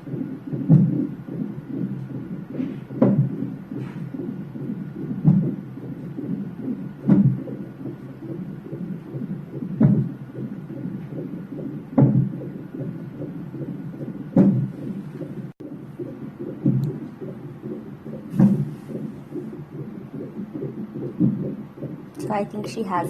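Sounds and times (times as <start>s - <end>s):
fast heartbeat on monitor: 0.0s - 23.0s.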